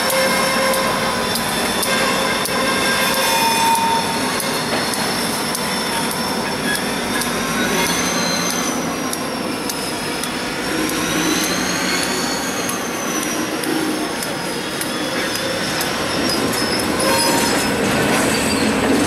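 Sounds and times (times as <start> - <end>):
train rumble: 0.0 - 19.0
train wheels squealing: 0.0 - 19.0.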